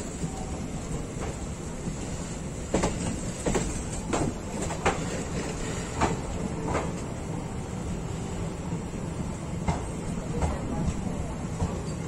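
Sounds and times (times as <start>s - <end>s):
train coach rumbling: 0.0s - 12.0s.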